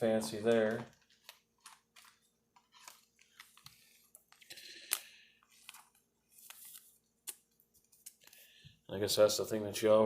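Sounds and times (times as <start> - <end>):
card stock rustling: 0.0 - 8.4.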